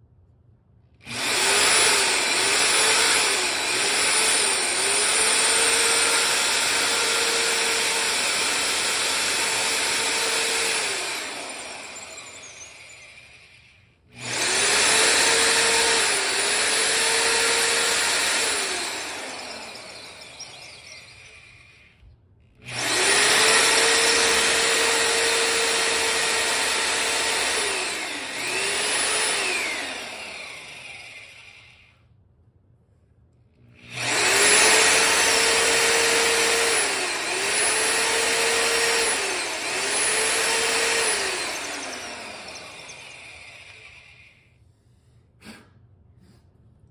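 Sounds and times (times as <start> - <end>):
drill motor winding down: 1.0 - 32.0, 33.8 - 44.6
electric drill boring into concrete: 1.0 - 32.0, 33.8 - 44.6.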